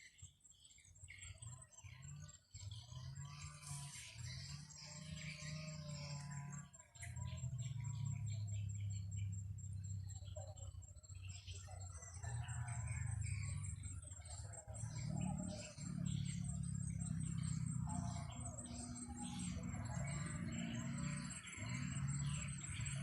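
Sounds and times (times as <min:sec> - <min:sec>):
birds chirping and calling: 0:00.0 - 0:23.0
high-pitched insect trill: 0:00.8 - 0:23.0.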